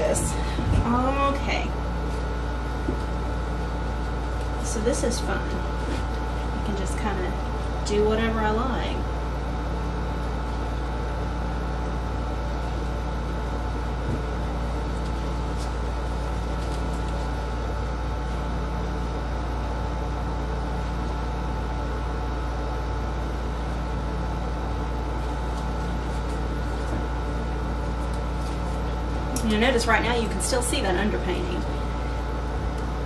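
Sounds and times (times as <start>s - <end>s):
appliance machine hum: 0.0s - 33.0s
faint steady whine: 0.0s - 33.0s.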